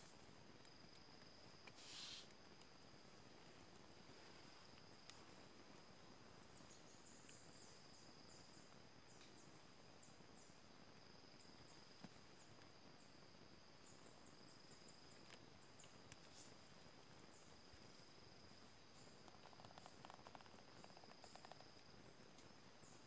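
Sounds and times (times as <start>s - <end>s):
high insect chirps: 0.0s - 23.0s
insect drone: 0.0s - 23.0s.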